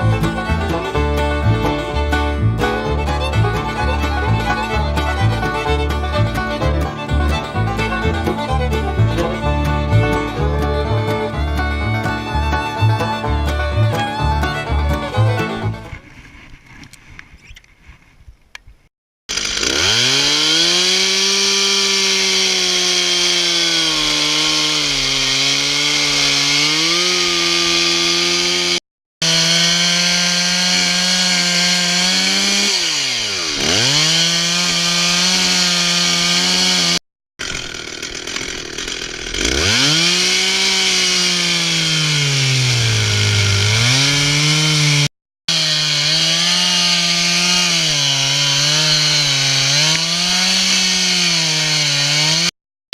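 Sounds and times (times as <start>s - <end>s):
chainsaw cutting wood: 0.0s - 16.3s, 19.3s - 52.6s.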